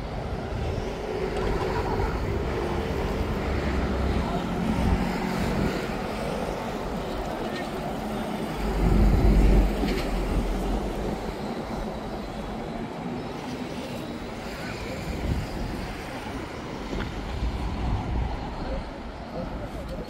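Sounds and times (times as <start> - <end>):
urban traffic noise: 0.0 - 20.0.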